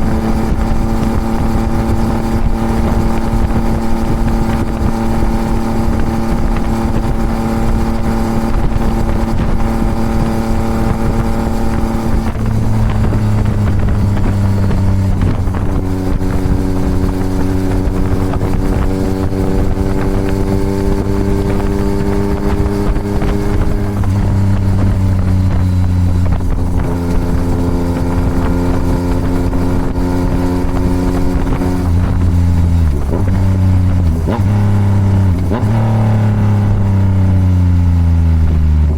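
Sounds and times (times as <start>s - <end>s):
motorcycle engine with gear changes: 0.0s - 38.9s.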